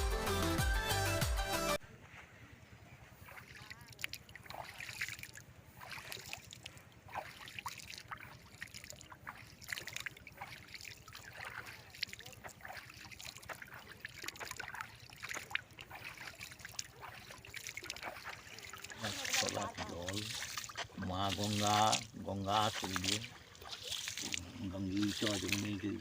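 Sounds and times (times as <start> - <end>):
water trickling and splashing: 3.0 - 26.0
small drips and splashes: 3.2 - 26.0.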